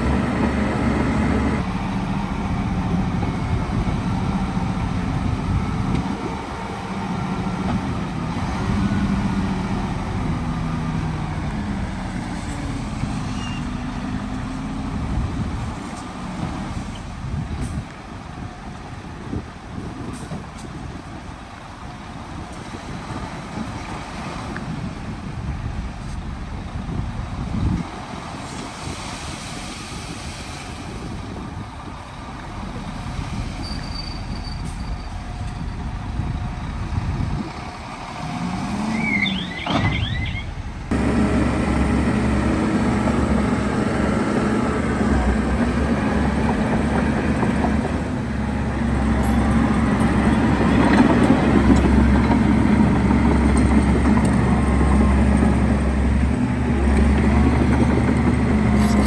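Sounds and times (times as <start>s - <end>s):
faint diesel engine: 0.0s - 59.0s
loud close diesel engine: 0.0s - 59.0s.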